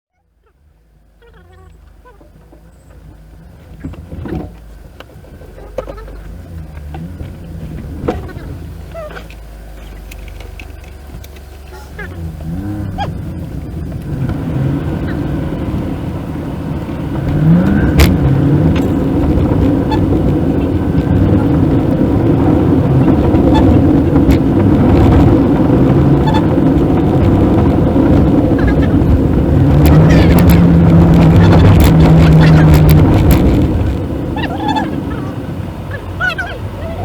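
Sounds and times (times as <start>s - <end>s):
car engine: 0.1s - 37.0s
road noise: 0.1s - 37.0s.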